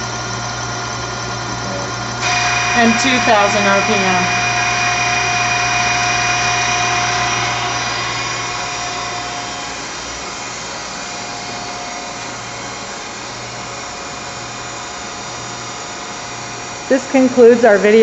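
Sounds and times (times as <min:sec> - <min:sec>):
lathe tools whining: 0:00.0 - 0:18.0
low machine hum: 0:00.0 - 0:18.0.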